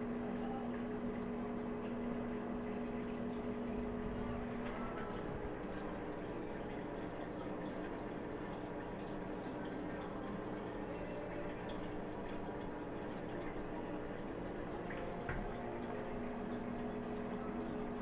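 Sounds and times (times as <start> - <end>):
low pump hum: 0.0 - 18.0
water trickling from filter: 0.0 - 18.0.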